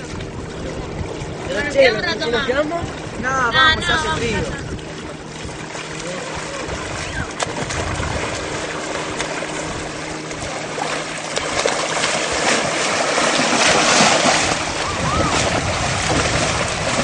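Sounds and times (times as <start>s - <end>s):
people wading through splashing water: 0.0s - 17.0s.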